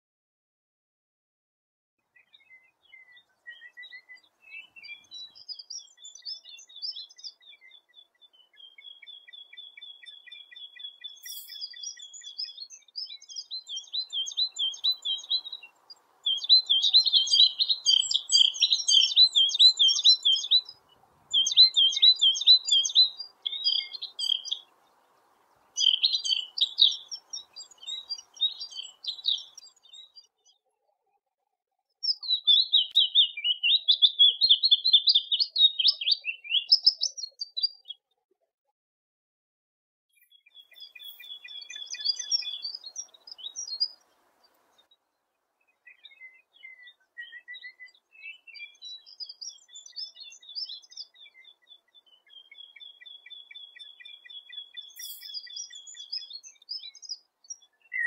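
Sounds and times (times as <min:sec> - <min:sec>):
bird calling and trilling: 0:02.2 - 0:24.8, 0:25.4 - 0:30.3, 0:32.0 - 0:37.9, 0:40.2 - 0:44.1, 0:45.8 - 0:58.0.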